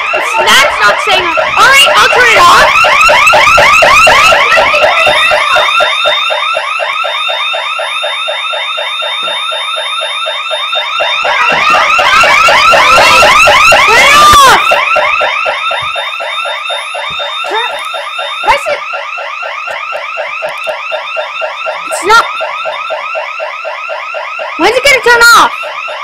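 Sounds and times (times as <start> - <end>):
alarm siren fast warble: 0.0 - 26.0.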